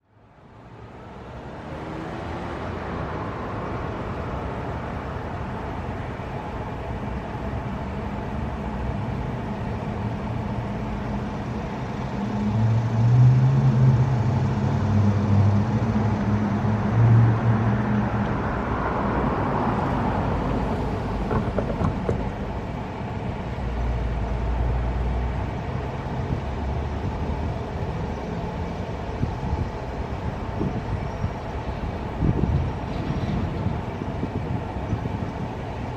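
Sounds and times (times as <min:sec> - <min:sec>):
diesel locomotive engine drone: 0:00.0 - 0:35.9
freight train rumbling by: 0:00.9 - 0:35.9.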